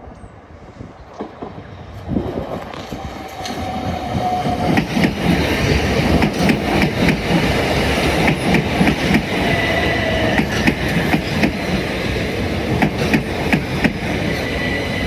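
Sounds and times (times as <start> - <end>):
electric train approaching: 0.1 - 15.0.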